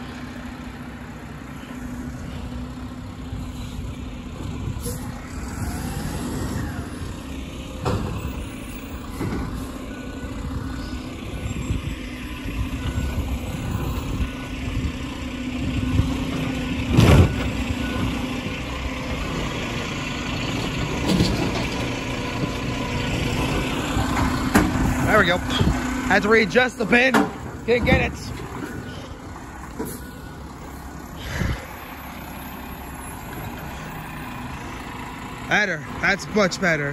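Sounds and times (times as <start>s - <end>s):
garbage truck engine running: 0.0s - 36.9s.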